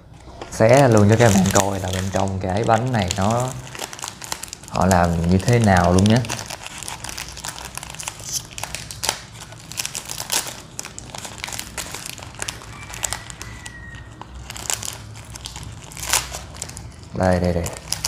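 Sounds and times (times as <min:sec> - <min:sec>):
foil wrapper crinkling: 0:00.3 - 0:18.0.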